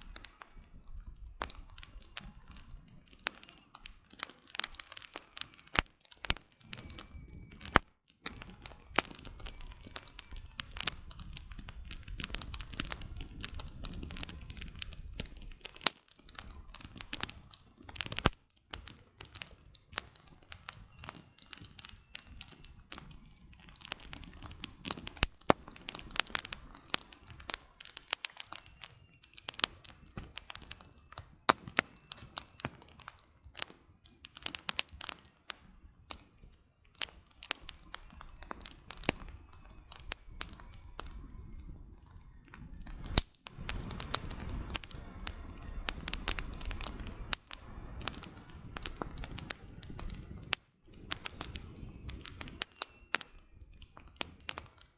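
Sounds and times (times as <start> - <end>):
firewood crackling and popping: 0.0 - 54.9
low rumble of flames: 0.0 - 54.9.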